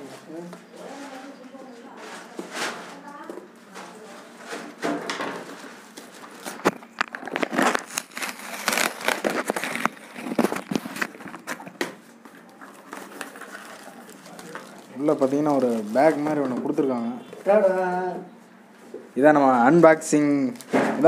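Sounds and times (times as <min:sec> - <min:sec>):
packaging rustling and crinkling: 0:00.1 - 0:18.1.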